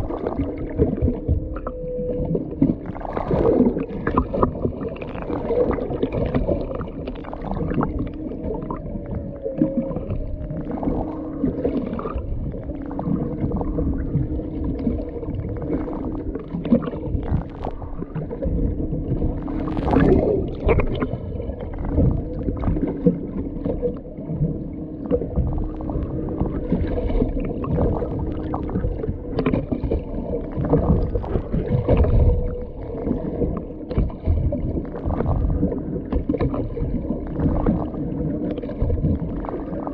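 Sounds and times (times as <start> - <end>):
boat engine hum: 0.0 - 39.9
water sloshing against hull: 0.0 - 39.9
whale song moans: 0.0 - 39.9.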